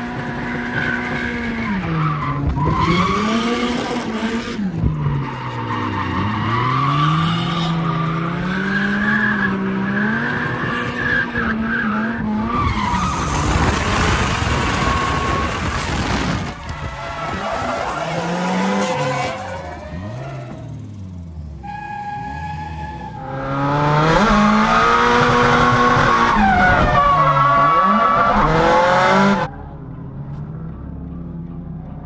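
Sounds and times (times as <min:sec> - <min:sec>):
car engine revving: 0:00.0 - 0:29.8.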